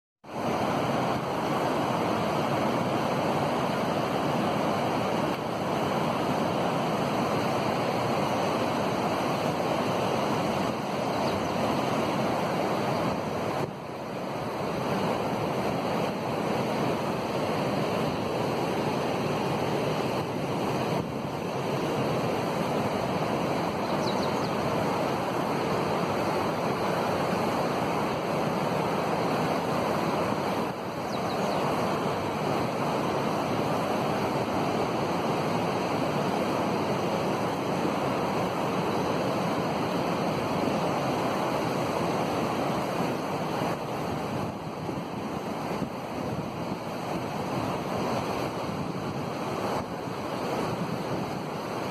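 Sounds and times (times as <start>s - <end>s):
flood water rushing: 0.3s - 51.9s.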